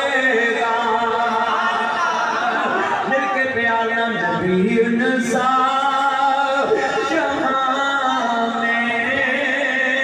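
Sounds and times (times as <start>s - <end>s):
man singing long held notes: 0.0s - 2.4s, 3.1s - 10.0s.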